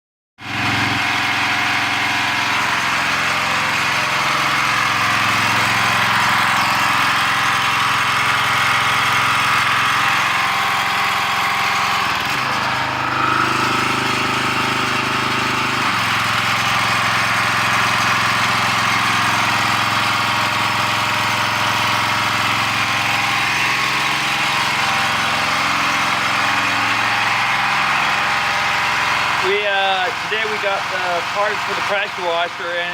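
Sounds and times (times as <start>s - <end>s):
pressure washer engine running: 0.4s - 32.9s.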